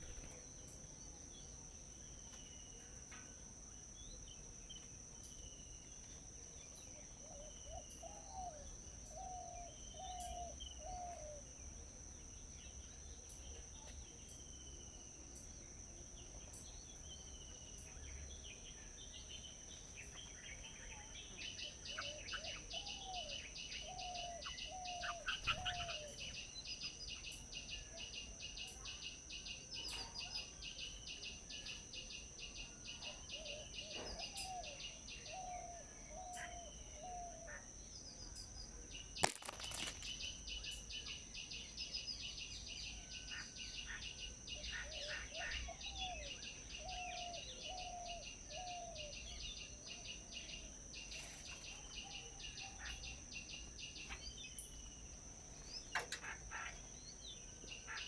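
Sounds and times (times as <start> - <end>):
birds calling and chirping: 0.0 - 0.8, 3.8 - 11.7, 16.1 - 58.0.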